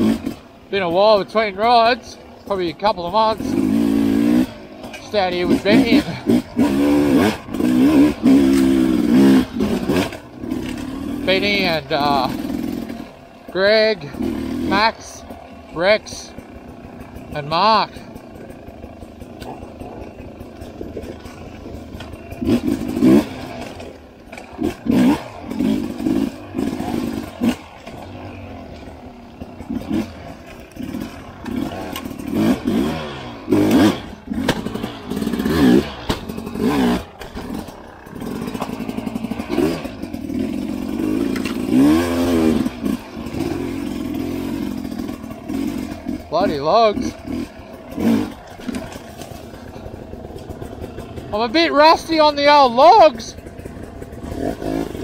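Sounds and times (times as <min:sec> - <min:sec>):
bike clattering over rough ground: 0:00.0 - 0:55.0
dirt bike engine revving: 0:00.0 - 0:55.0.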